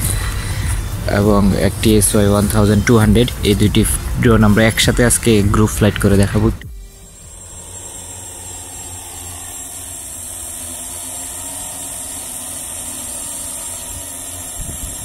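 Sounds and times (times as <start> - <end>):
drone motors humming: 0.0 - 15.0.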